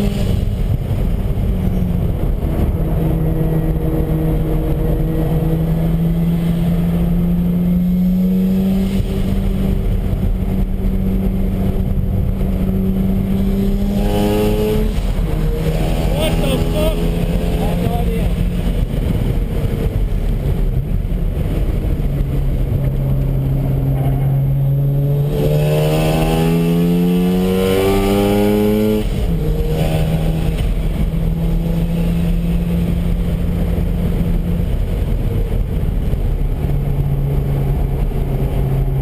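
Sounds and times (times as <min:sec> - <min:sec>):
rotary engine accelerating: 0:00.0 - 0:39.0.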